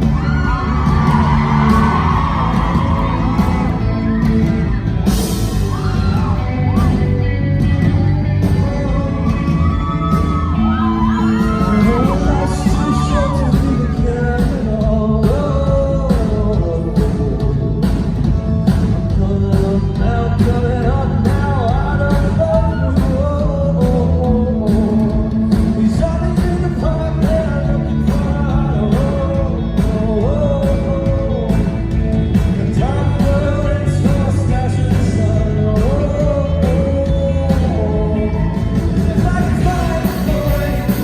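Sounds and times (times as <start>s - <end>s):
heavy bass: 0.0s - 41.0s
man singing lead vocals: 0.0s - 41.0s
steady drum beat: 0.0s - 41.0s.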